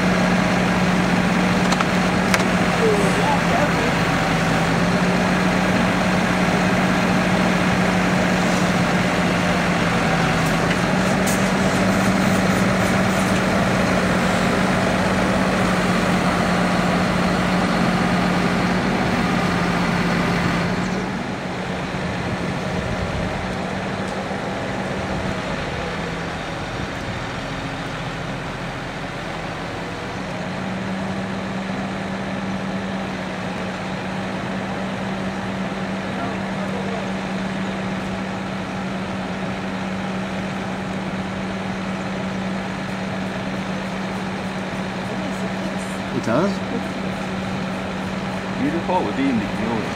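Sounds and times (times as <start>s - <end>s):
lorry diesel engine humming: 0.0s - 49.9s.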